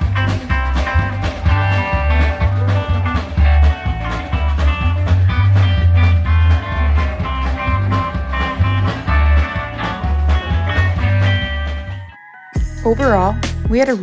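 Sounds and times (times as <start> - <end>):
bluesy rock music with guitar: 0.0 - 13.7.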